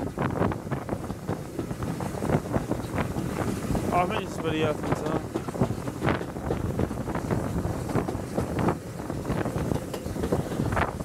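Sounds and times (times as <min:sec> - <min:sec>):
steam train running: 0:00.0 - 0:11.0
wind buffeting microphone: 0:00.0 - 0:11.0.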